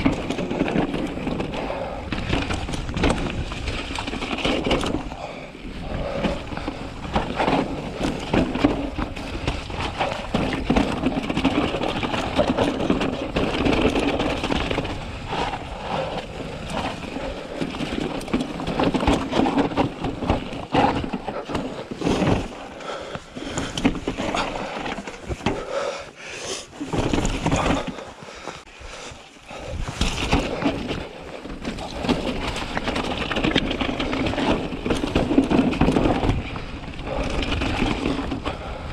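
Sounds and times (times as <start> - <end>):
bike knocks and rattles: 0.0 - 38.9
bike tyres crunching over stones: 0.0 - 38.9.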